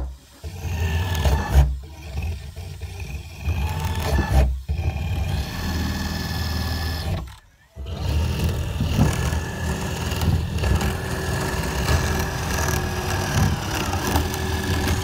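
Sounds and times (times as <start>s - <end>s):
electric saw cutting wood: 0.3s - 15.0s.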